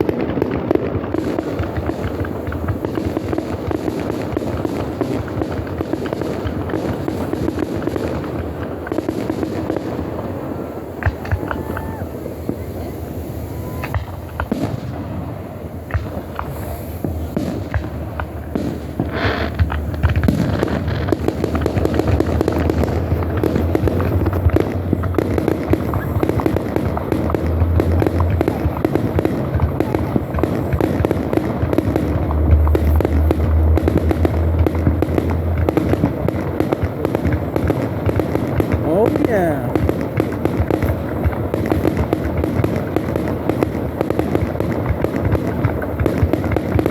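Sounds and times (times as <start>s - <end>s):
firework shells booming: 0.0s - 46.9s
fireworks crackling: 0.0s - 46.9s.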